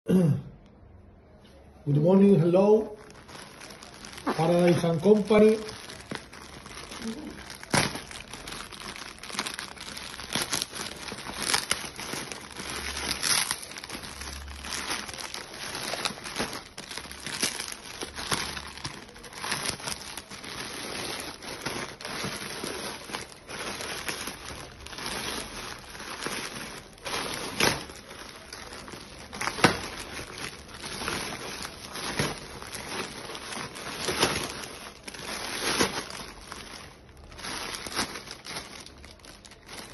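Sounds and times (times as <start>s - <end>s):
plastic packaging crinkling: 1.8s - 39.9s.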